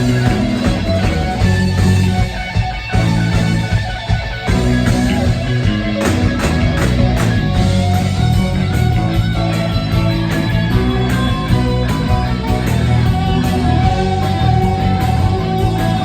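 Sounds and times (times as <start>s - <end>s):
electric guitars: 0.0s - 16.0s
live rock band: 0.0s - 16.0s.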